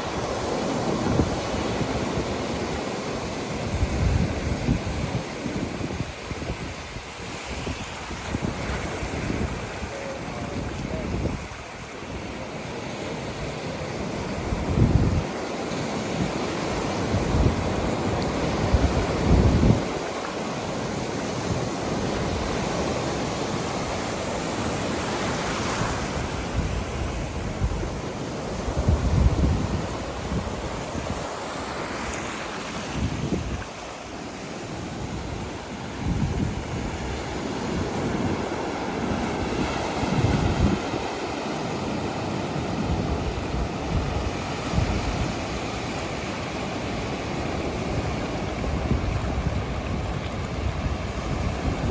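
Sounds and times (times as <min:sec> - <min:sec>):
ocean surf breaking: 0:00.0 - 0:51.9
wind buffeting microphone: 0:00.0 - 0:51.9.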